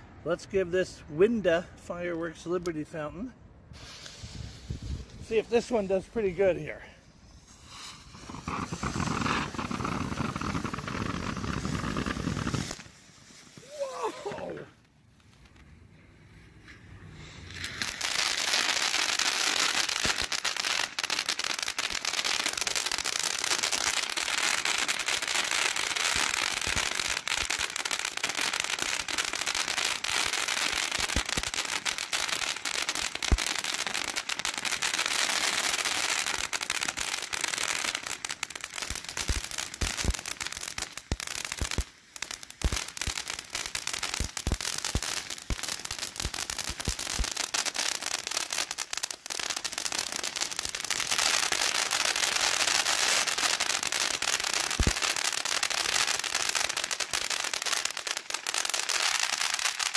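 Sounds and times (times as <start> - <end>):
fireworks fountain hissing: 0.2 - 15.6, 17.0 - 59.9
fireworks crackling pops: 0.2 - 59.9.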